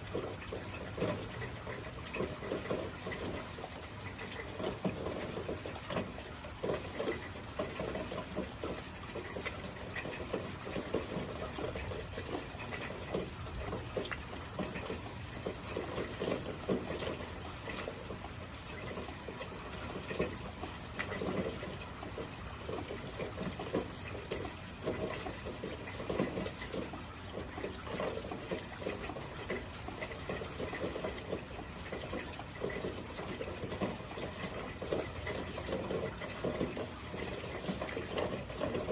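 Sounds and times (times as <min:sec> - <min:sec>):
rushing water: 0:00.0 - 0:38.9
water splashing and trickling: 0:00.0 - 0:38.9.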